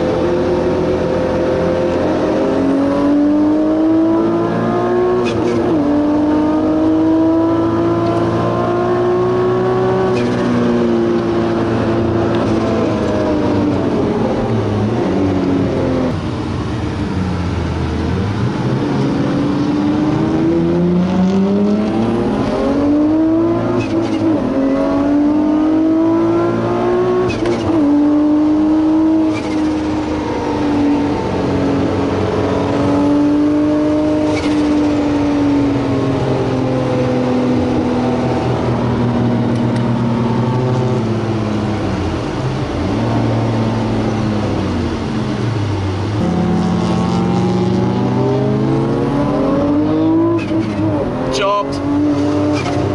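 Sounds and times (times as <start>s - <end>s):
car engine revving from inside: 0.1s - 16.2s, 18.8s - 41.6s, 46.1s - 52.9s.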